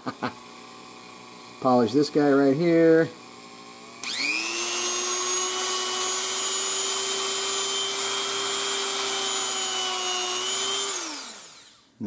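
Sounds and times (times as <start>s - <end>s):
rotary tool whining: 0.5s - 11.9s.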